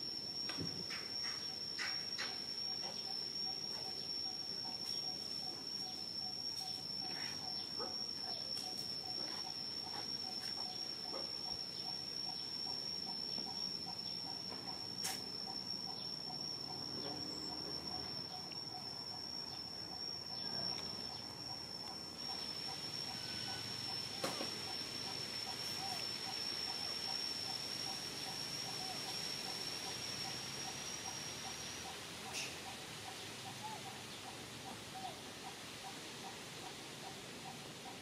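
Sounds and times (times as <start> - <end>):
faint pulsing insect call: 0.0 - 38.0
high-pitched insect drone: 0.0 - 38.0.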